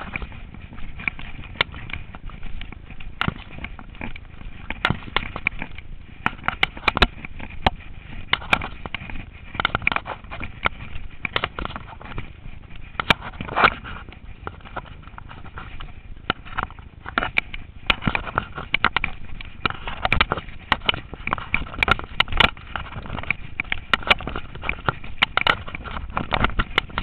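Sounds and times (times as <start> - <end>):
bike knocking and rattling on stones: 0.0 - 27.0
rough tyre rumble: 0.0 - 27.0.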